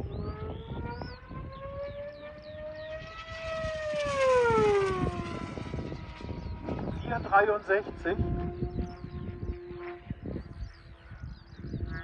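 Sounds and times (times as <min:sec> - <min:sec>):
model plane motor whine: 0:00.0 - 0:12.0.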